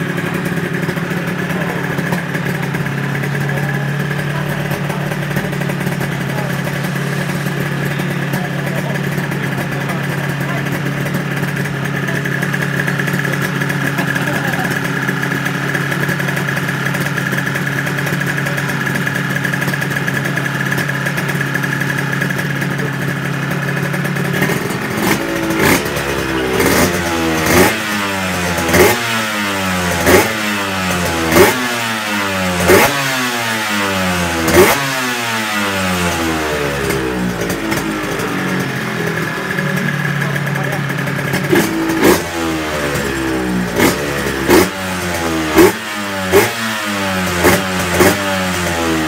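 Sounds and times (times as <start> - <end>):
motorcycle engine idling and revving: 0.0 - 49.0.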